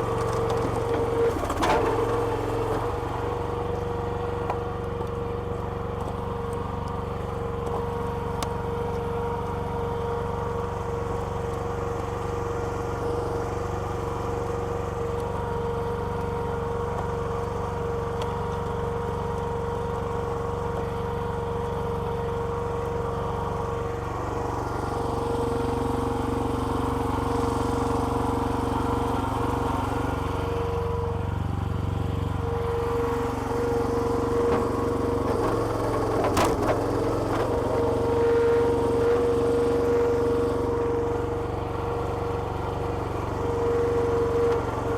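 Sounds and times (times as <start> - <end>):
small petrol engine running: 0.0 - 44.9.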